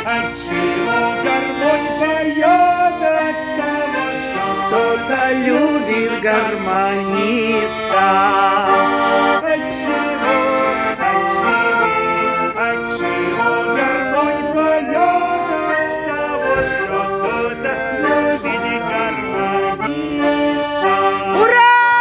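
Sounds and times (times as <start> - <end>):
button accordion folk melody: 0.0 - 22.0.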